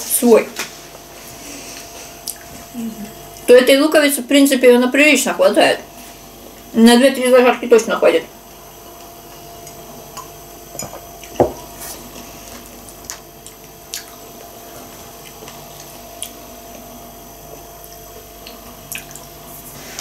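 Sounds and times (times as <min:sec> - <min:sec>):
steady faint hum: 0:00.0 - 0:20.0.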